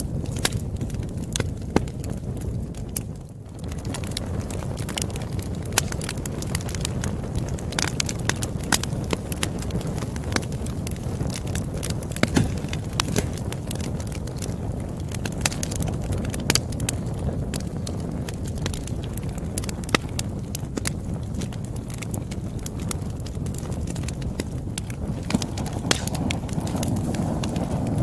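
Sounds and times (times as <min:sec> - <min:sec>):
campfire flames rumbling: 0:00.0 - 0:28.0
fire crackling and popping: 0:00.0 - 0:28.0.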